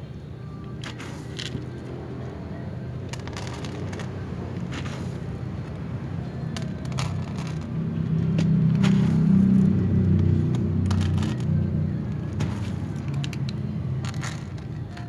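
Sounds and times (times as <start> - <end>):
cats crunching dry kibble: 0.8 - 1.8, 3.0 - 15.0.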